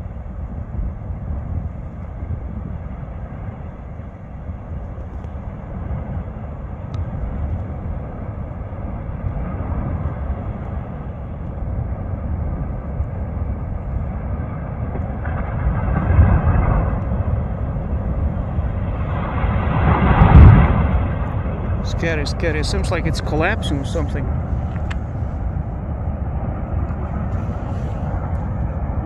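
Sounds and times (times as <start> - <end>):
rushing noise: 0.0 - 29.0
volcano deep rumble: 0.0 - 29.0.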